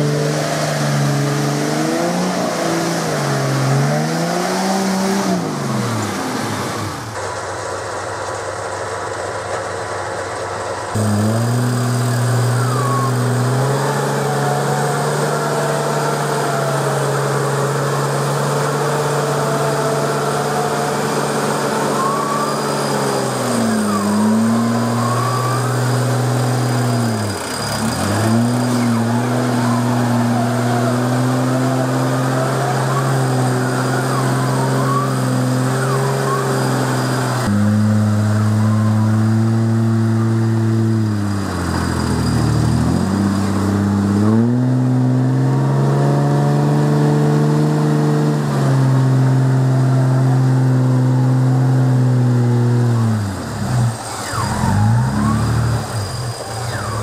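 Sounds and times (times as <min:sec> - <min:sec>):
engine and winch drone: 0:00.0 - 0:57.0.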